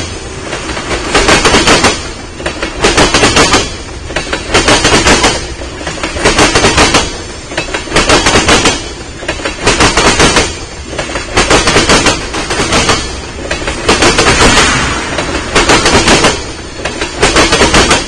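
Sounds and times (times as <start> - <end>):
low train rumble: 0.0 - 18.0
train wheels clacking over rails: 0.0 - 18.0.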